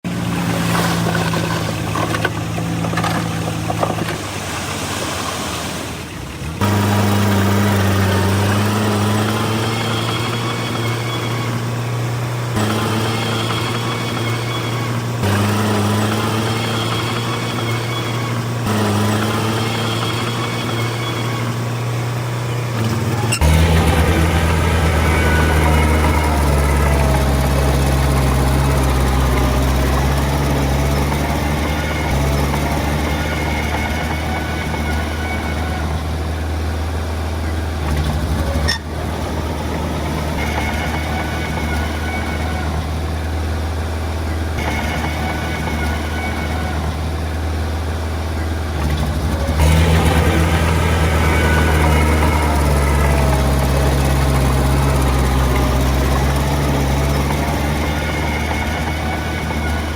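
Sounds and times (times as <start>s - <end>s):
heavy machine diesel engines: 0.0s - 59.9s.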